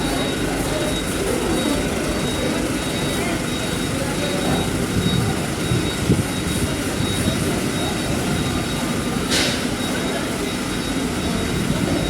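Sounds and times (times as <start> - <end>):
loud machinery drone: 0.0 - 12.0.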